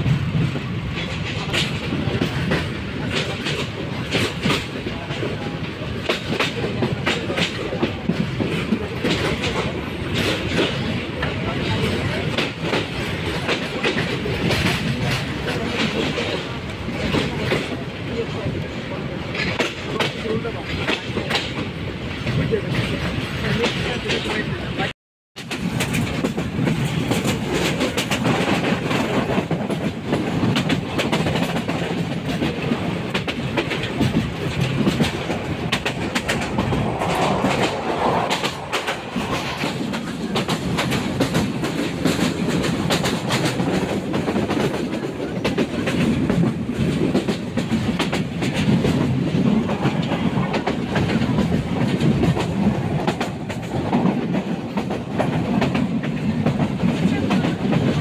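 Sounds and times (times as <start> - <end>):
train carriage rumbling: 0.0 - 58.0
wheels clattering on rails: 0.0 - 58.0.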